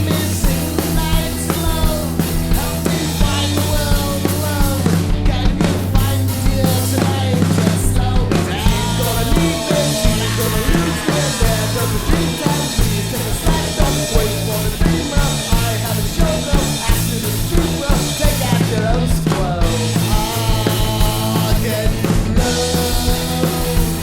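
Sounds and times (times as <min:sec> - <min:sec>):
bass line: 0:00.0 - 0:24.0
drum kit beat: 0:00.0 - 0:24.0.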